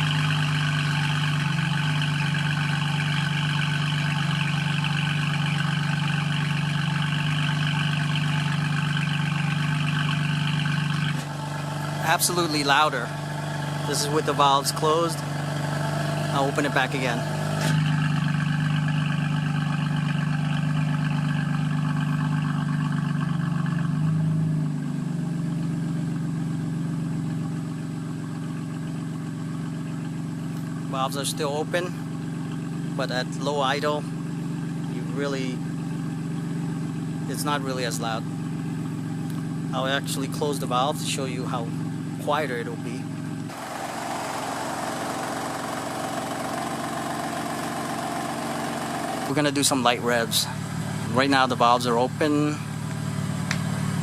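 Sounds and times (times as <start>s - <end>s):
car engine idling loudly: 0.0s - 54.0s.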